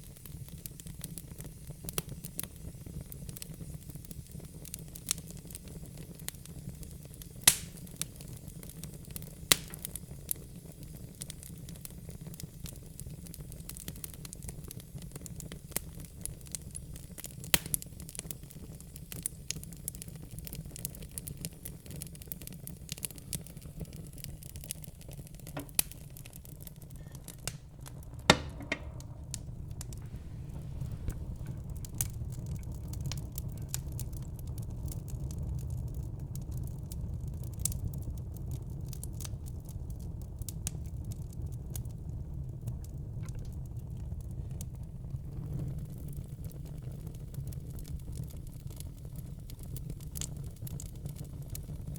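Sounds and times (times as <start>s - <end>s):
fire crackling and popping: 0.0s - 51.9s
low rumble of flames: 0.0s - 51.9s.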